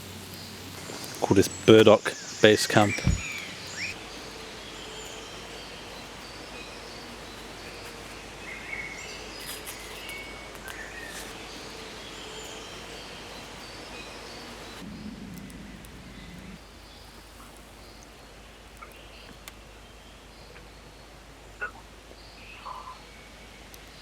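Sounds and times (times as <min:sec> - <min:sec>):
small birds chirping: 0:00.0 - 0:24.0
strong wind through trees: 0:00.0 - 0:24.0.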